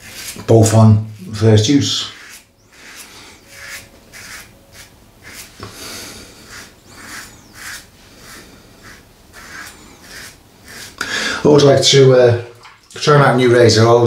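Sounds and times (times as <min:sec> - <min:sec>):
razor scraping stubble: 0:00.0 - 0:12.0.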